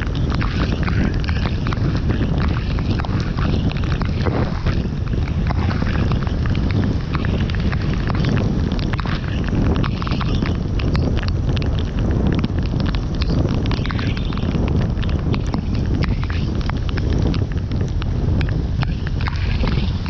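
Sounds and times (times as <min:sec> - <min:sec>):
tyres rumbling on wet road: 0:00.0 - 0:20.0
wind noise: 0:00.0 - 0:20.0.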